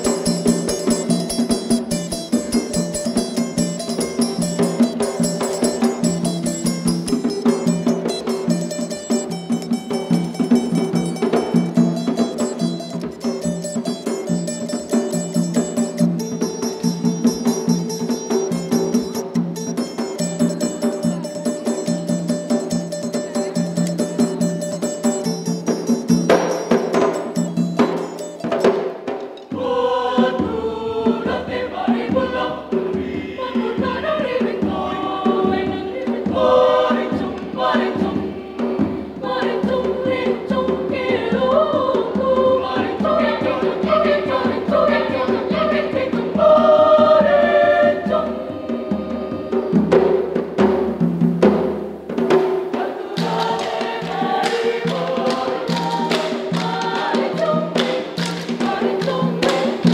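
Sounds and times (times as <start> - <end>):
choir singing in parts: 0.0 - 59.9
drums beating: 0.0 - 59.9.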